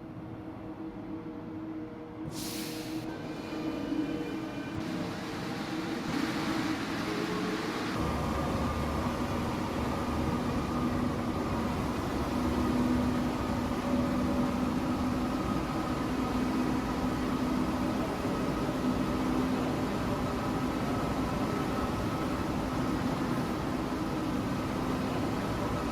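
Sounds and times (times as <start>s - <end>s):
metro train mechanical hum: 0.0s - 25.9s.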